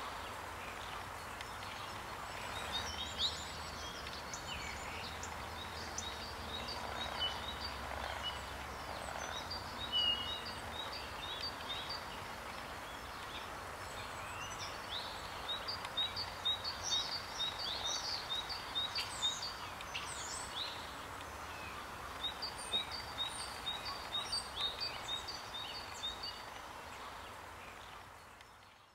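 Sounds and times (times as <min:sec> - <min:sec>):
outdoor background hiss: 0:00.0 - 0:28.9
songbirds chirping: 0:00.0 - 0:28.9.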